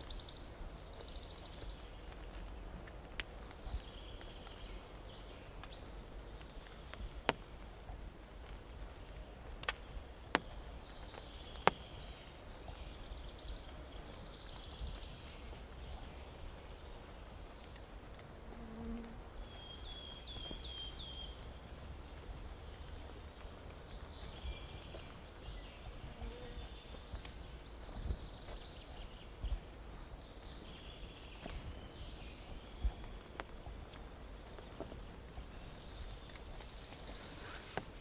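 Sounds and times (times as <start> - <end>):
birds chirping: 0.0 - 18.2, 18.9 - 38.0.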